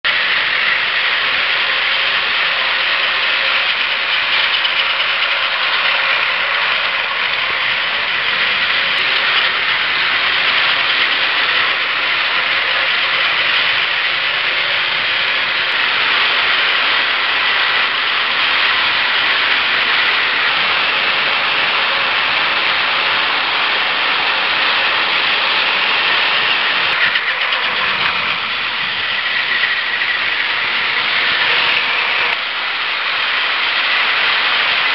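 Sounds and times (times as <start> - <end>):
wheels rattling on track: 0.0 - 34.9
toy train motors whirring: 0.1 - 34.9.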